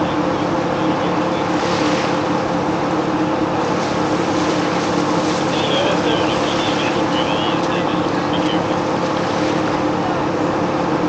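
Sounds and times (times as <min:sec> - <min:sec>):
engine droning: 0:00.0 - 0:11.0
splashing in shallow water: 0:00.4 - 0:10.5.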